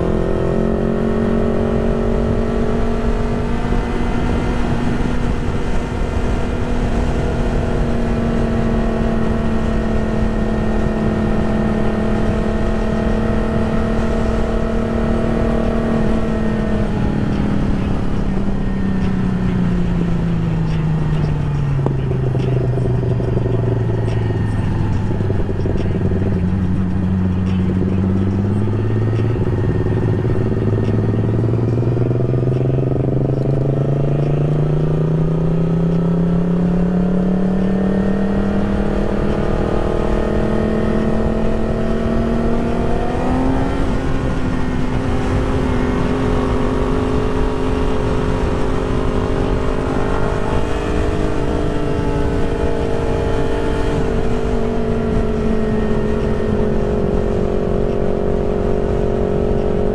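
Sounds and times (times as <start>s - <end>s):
motorcycle engine: 0.0s - 59.9s.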